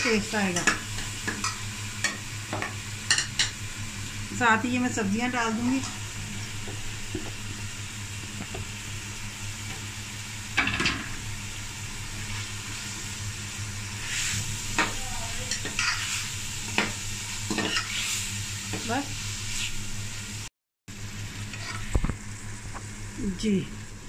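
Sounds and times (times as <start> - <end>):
vegetables sizzling in pot: 0.0 - 24.0.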